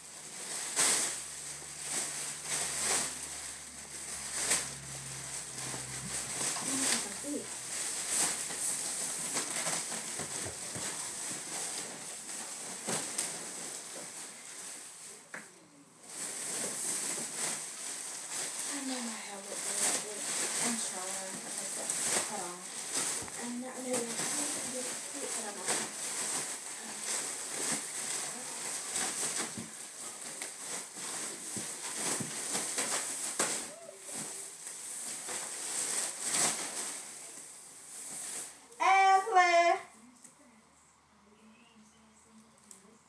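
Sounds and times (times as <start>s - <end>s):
plastic trash bag crinkling: 0.0s - 39.9s.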